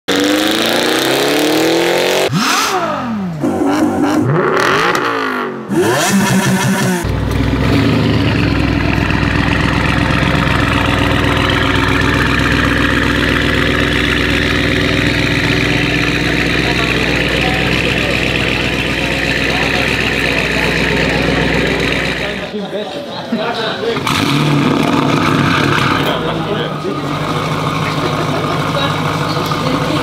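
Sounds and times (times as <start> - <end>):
car engine revving and idling: 0.1 - 22.5, 24.0 - 30.0.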